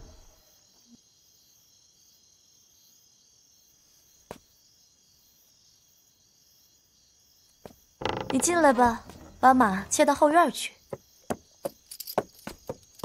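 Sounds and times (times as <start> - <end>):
faint crickets chirping: 0.0 - 13.0.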